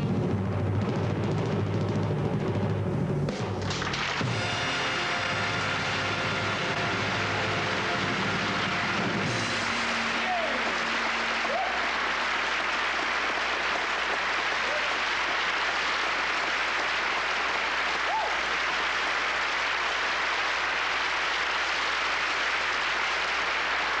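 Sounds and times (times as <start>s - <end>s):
audience applauding: 3.6s - 24.0s.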